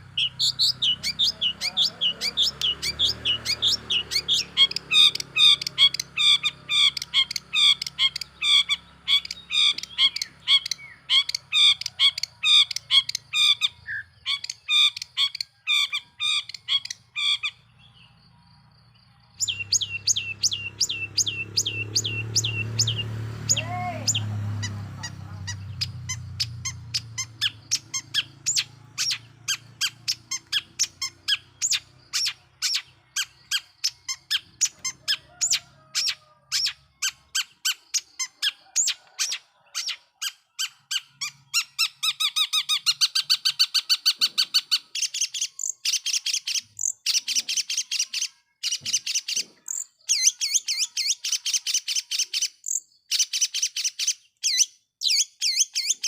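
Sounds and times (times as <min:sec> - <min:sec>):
bird singing sharp repeated notes: 0:00.0 - 0:56.0.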